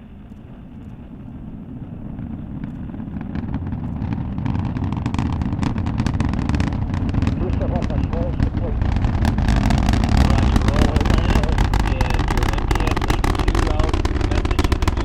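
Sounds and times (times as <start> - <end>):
distant rocket launch rumble: 0.0 - 15.0
sharp crackling: 0.0 - 15.0.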